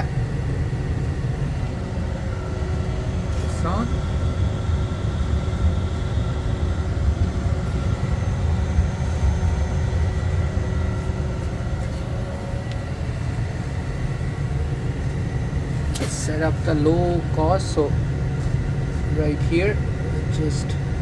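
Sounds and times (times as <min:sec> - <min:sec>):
faint steady hum: 0:00.0 - 0:21.0
water heater low rumble: 0:00.0 - 0:21.0.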